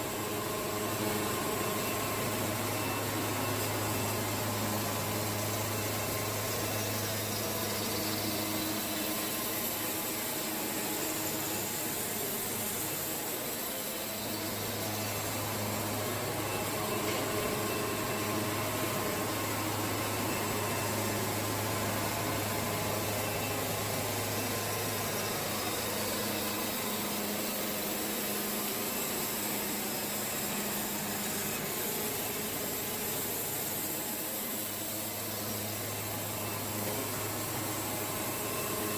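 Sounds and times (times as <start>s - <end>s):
sawmill engine hum: 0.0s - 38.9s.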